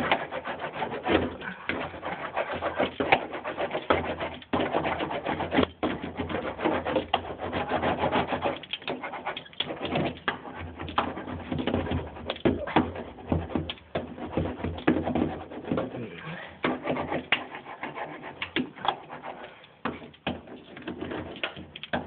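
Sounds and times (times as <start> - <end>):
hand roller rubbing on mat: 0.0 - 22.0.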